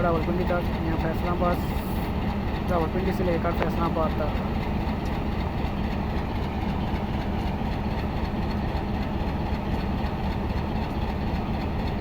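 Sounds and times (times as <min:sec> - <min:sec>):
locomotive idling: 0:00.0 - 0:12.0.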